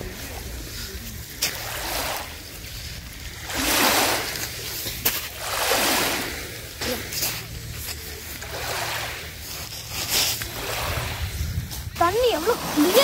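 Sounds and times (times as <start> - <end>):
lake waves lapping on pebbly shore: 0.0 - 13.0
steady low rumble: 0.0 - 13.0.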